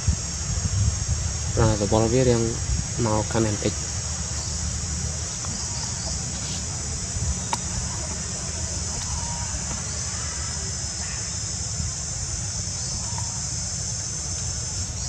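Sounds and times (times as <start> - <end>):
low outdoor rumble: 0.0 - 15.0
shrill insect chorus: 0.0 - 15.0
faint chirps: 1.4 - 15.0.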